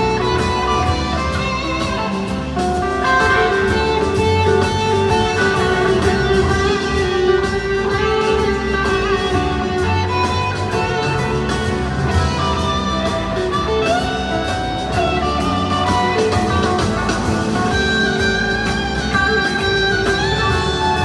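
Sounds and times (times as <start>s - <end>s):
bass guitar: 0.0s - 21.0s
drums: 0.0s - 21.0s
electric guitar lead: 0.0s - 21.0s.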